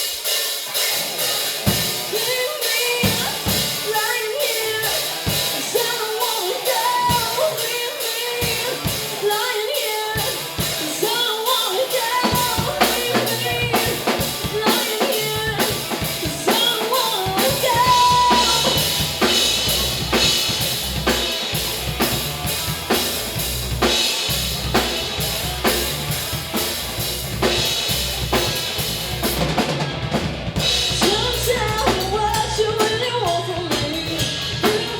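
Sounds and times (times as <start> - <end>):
bass: 0.0 - 7.8, 8.4 - 9.4, 10.1 - 11.2, 11.8 - 34.9
band playing live music: 0.0 - 34.9
drum kit beat: 0.0 - 34.9.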